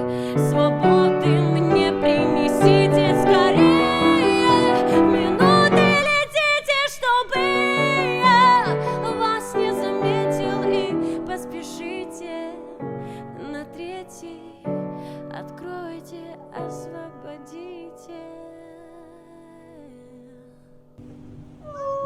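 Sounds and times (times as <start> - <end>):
slow pop song with piano: 0.0 - 21.0.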